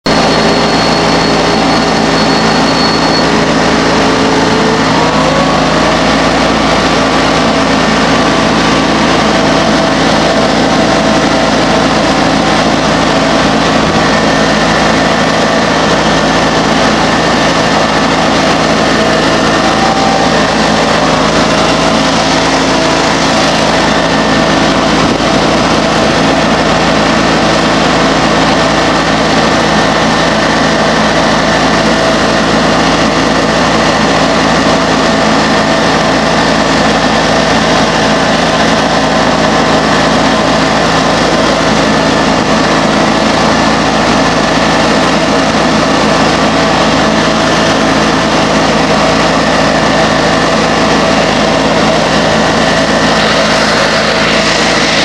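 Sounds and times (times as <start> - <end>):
garden tractor engine running: 0.0 - 55.0.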